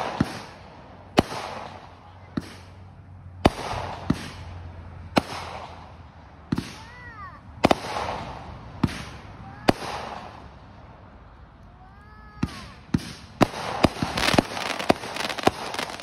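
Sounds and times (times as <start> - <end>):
crackling firework stars: 0.0 - 7.0, 7.6 - 16.0
firework bangs: 0.0 - 7.0, 7.6 - 10.8, 12.4 - 16.0.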